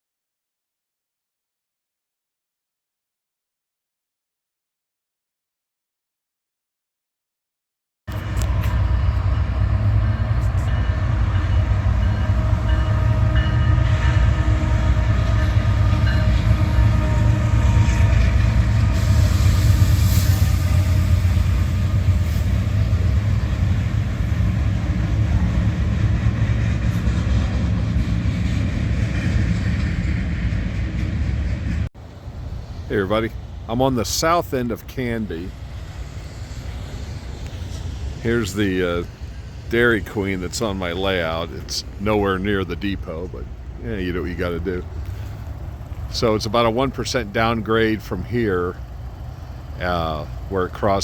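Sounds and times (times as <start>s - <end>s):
freight train rumbling on rails: 8.1s - 51.0s.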